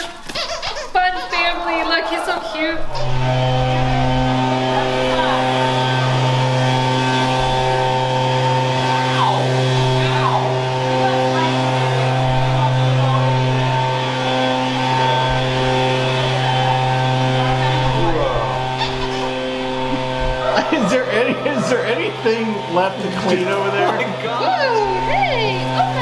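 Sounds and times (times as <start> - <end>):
small gas engine running: 2.7 - 26.0.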